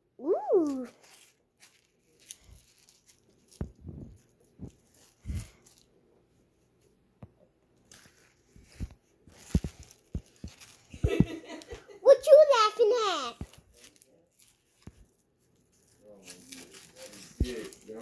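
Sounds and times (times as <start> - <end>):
paper crinkling: 0.5 - 5.9, 7.8 - 11.8, 12.5 - 18.0.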